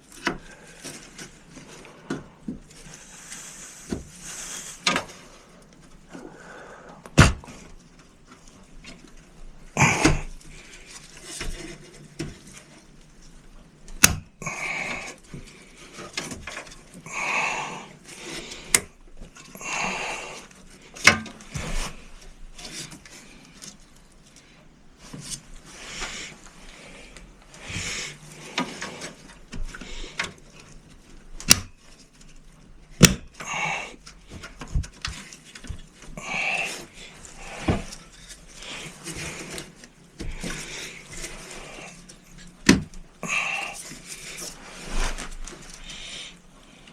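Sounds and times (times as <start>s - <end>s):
rustling and scraping handling: 0.0s - 46.9s.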